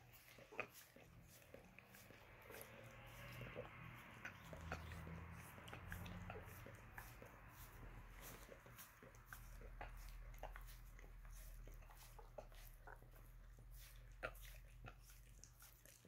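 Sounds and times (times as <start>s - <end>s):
dog licking wet smacks: 0.0s - 16.0s.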